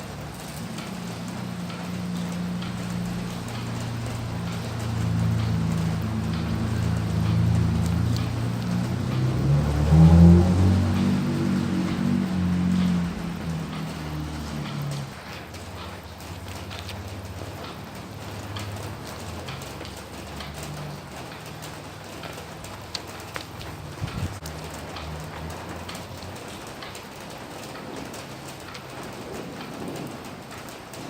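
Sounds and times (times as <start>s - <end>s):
rain drops pattering: 0.0s - 31.0s.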